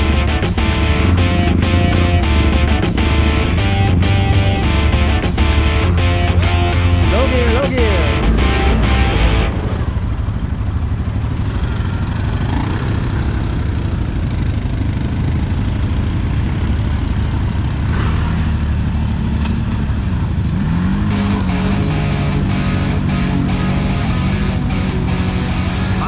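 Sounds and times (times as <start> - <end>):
atv engine revving: 0.0 - 26.0
atv engines rumbling: 0.0 - 26.0.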